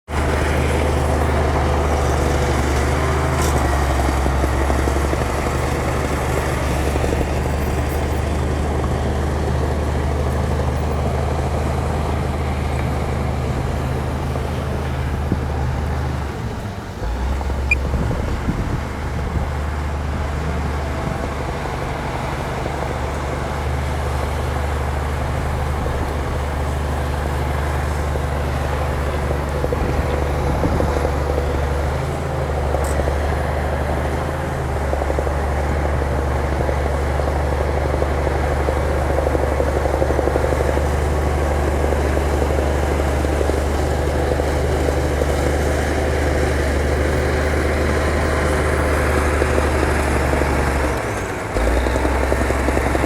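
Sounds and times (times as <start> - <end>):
bulldozer diesel engine running: 0.1 - 53.0.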